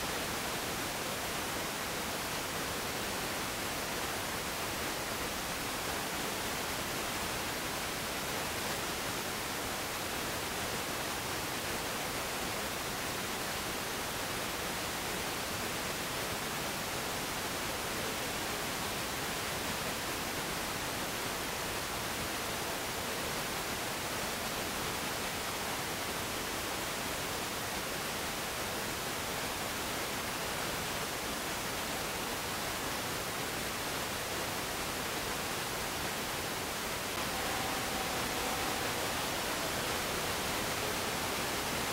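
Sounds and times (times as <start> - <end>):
static hiss: 0.0 - 41.9.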